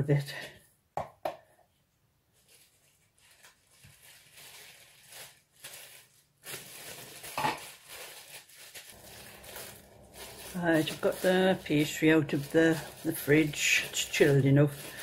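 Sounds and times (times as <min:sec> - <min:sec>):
cellophane bag crinkling: 0:02.4 - 0:15.0.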